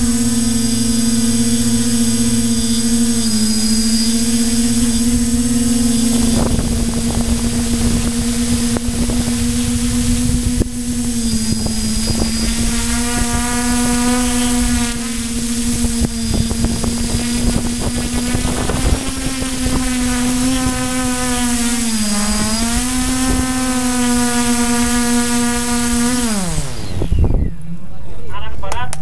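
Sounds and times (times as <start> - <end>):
drone propellers whining: 0.0 - 28.7.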